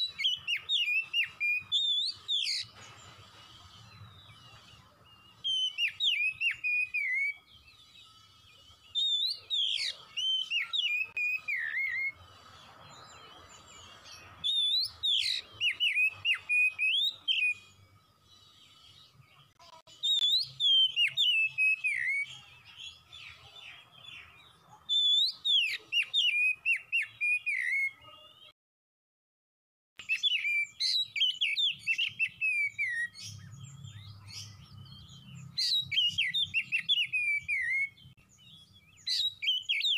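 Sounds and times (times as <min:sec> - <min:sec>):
bird singing whistled phrases: 0:00.0 - 0:02.7, 0:05.1 - 0:12.2, 0:13.0 - 0:17.9, 0:19.9 - 0:23.4, 0:24.0 - 0:28.5, 0:30.0 - 0:39.9.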